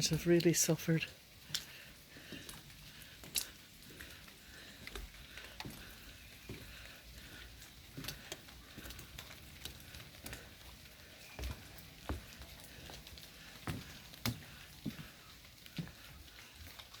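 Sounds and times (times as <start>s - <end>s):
light rain on foliage: 0.0s - 17.0s
sharp drips and taps: 0.0s - 17.0s.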